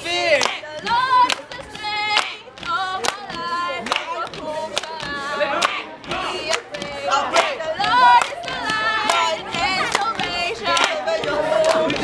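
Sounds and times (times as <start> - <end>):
group singing in unison: 0.0 - 12.0
hand claps on the beat: 0.1 - 12.0.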